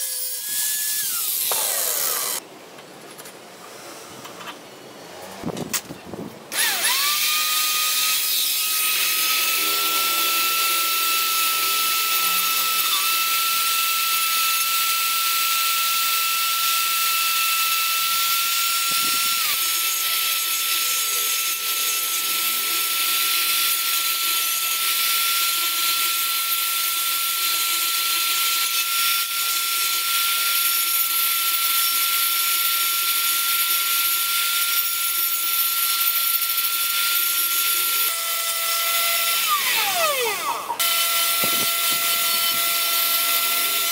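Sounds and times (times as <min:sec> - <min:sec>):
rotary tool grinding steel: 0:00.0 - 0:02.4, 0:06.5 - 0:43.9.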